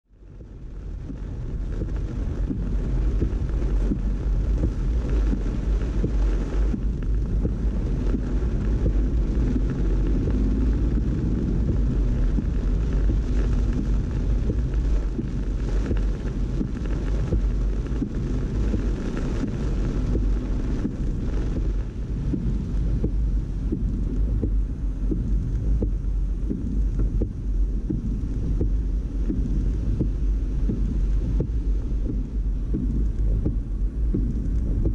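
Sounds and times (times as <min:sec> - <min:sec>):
car cabin rumble: 0:00.1 - 0:34.9
rain hissing: 0:00.2 - 0:34.9
wet tyres on standing water: 0:00.2 - 0:34.9.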